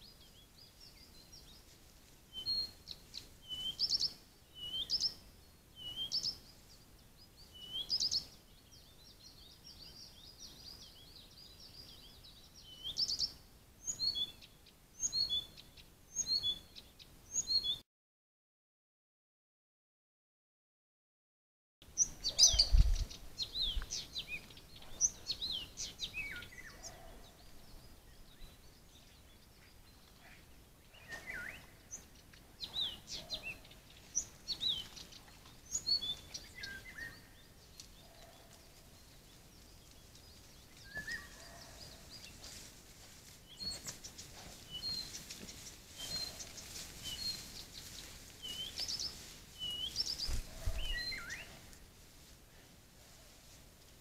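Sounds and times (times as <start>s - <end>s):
songbirds chirping: 0.0s - 17.8s, 21.8s - 54.0s.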